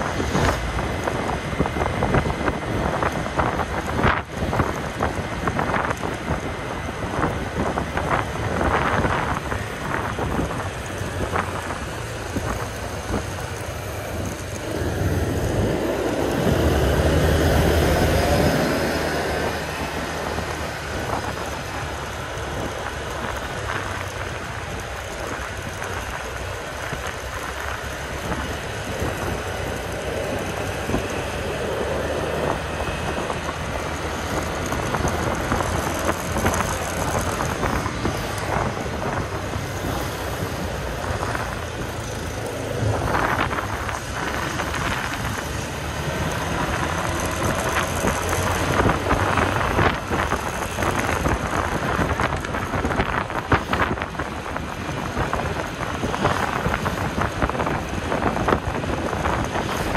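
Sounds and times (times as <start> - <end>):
road and wind noise: 0.0 - 59.9
scooter engine running: 0.6 - 59.9.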